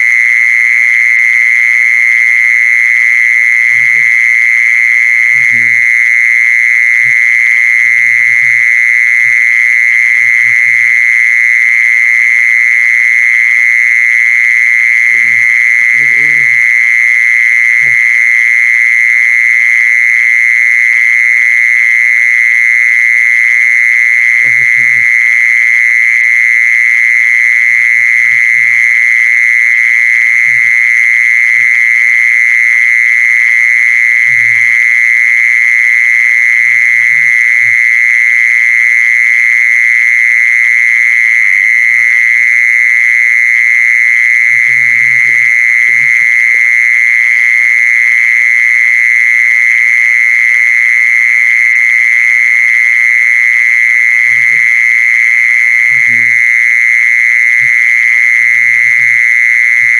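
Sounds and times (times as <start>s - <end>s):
cicada buzzing: 0.0s - 59.9s.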